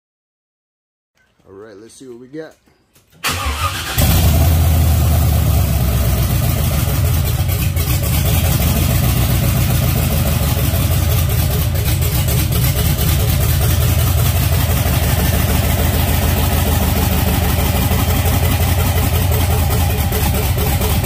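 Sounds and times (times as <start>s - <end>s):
car engine idling: 3.2s - 21.0s.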